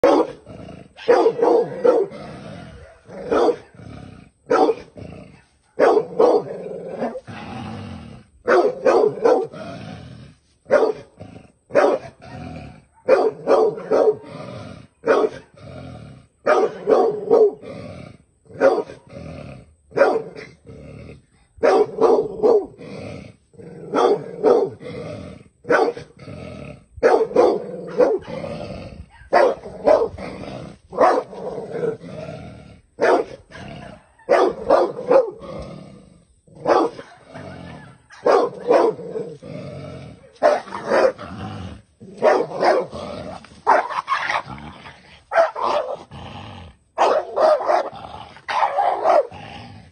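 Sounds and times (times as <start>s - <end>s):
dog barking and growling: 0.0s - 49.9s.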